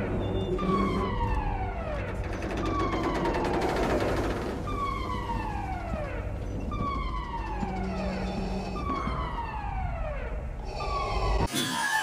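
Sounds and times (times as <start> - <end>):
falling wail alarm siren: 0.0 - 12.0.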